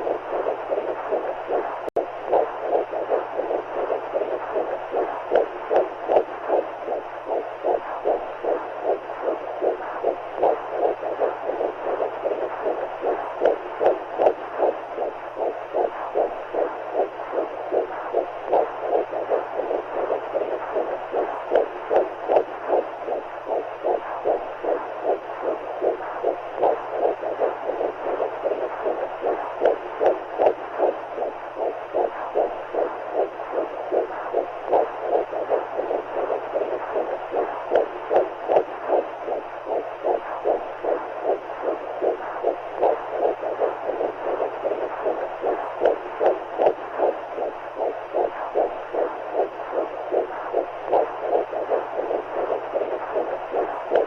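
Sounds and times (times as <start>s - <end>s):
heartbeat pulsing: 0.0s - 54.0s.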